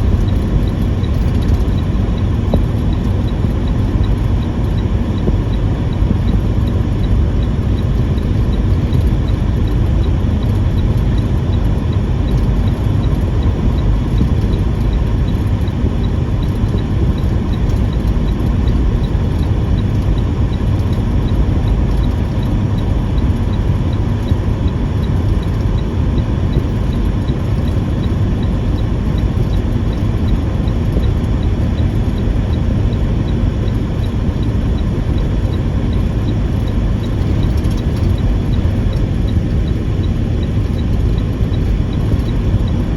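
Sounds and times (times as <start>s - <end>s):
truck engine and road noise: 0.0s - 42.9s.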